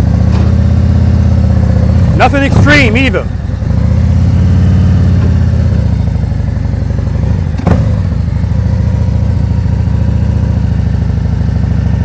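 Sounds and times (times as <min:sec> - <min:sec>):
motorcycle engine low rumble: 0:00.0 - 0:12.0.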